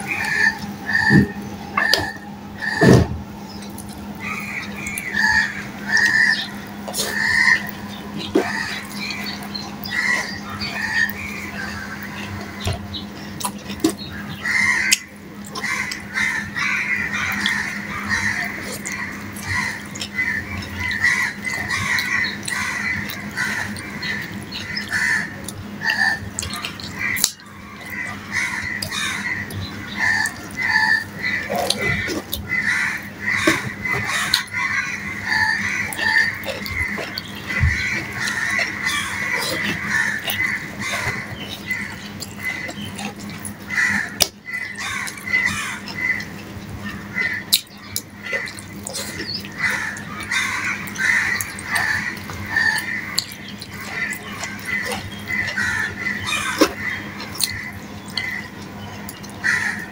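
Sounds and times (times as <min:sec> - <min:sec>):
chewing: 0:00.0 - 0:59.9
high chirping calls: 0:00.0 - 0:59.9
low hum: 0:00.0 - 0:59.9.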